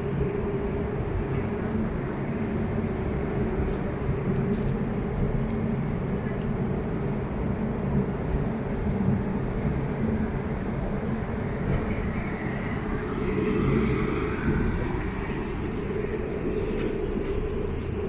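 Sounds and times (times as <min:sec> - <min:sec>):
outdoor background rumble: 0:00.0 - 0:18.0.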